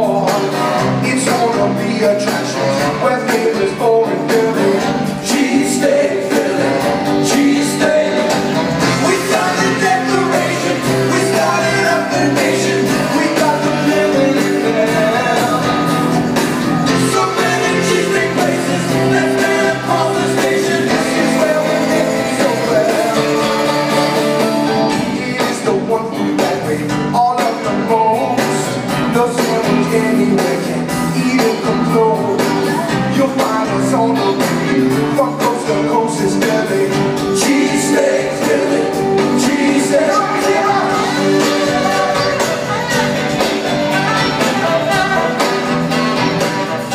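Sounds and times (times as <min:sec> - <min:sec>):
live rock band with singing: 0:00.0 - 0:46.9.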